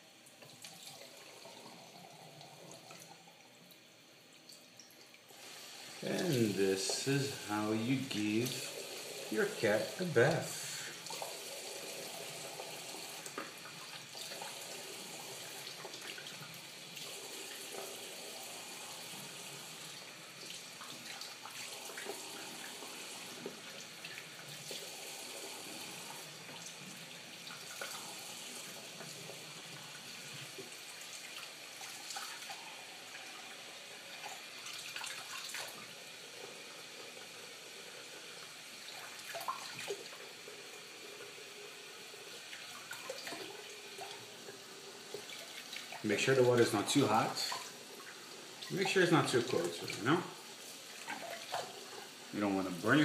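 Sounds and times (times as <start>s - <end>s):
tap water running: 0.0s - 53.0s.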